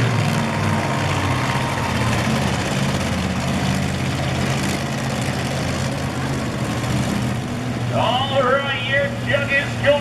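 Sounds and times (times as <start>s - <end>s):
truck engine droning at low revs: 0.0s - 10.0s.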